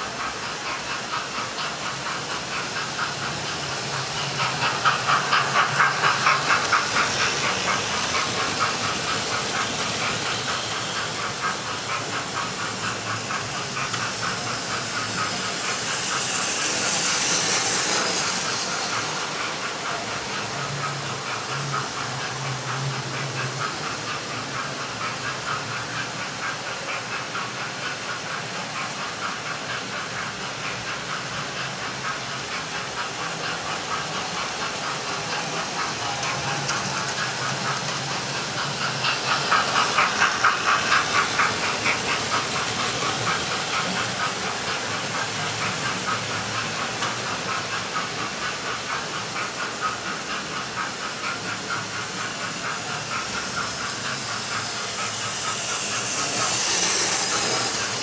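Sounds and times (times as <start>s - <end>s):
model trains clattering on track: 0.0s - 58.0s.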